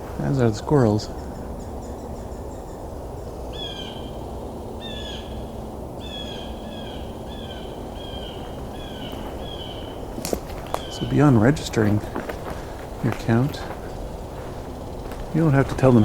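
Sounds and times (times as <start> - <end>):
blue jay calling: 0.0 - 16.0
low background rumble: 0.0 - 16.0.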